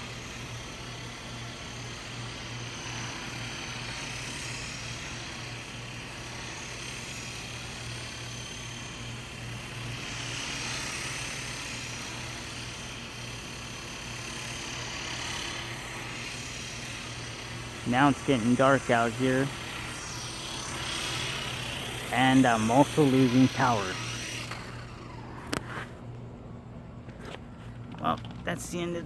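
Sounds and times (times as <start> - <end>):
toy helicopter motors buzzing: 0.0 - 26.1.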